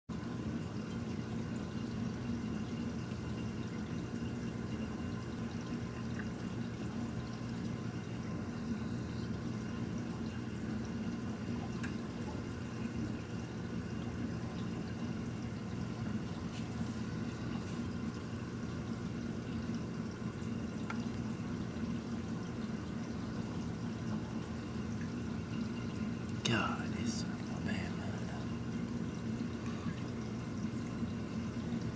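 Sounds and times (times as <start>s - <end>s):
low pump hum: 0.1s - 31.9s
water trickling and splashing: 0.1s - 31.9s.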